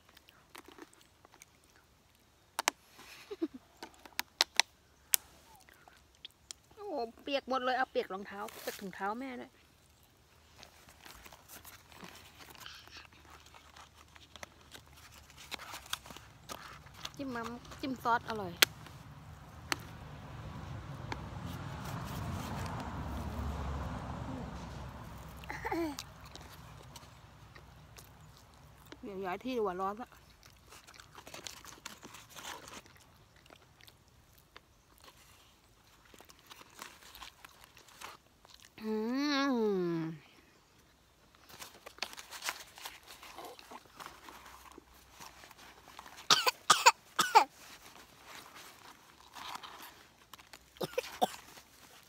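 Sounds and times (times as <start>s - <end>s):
small clicks and crunches: 0.0s - 6.7s, 9.8s - 20.0s, 25.0s - 38.8s, 40.8s - 52.0s.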